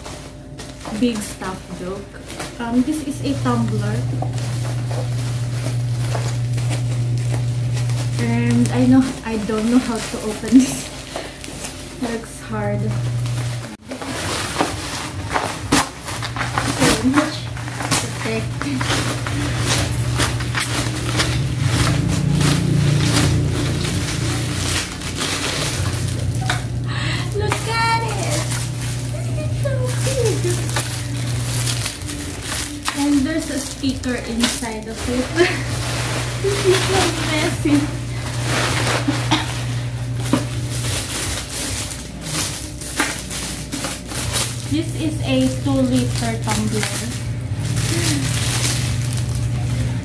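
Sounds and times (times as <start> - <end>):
bubble wrap crinkling: 0.0 - 50.0
steady low hum: 0.0 - 50.0.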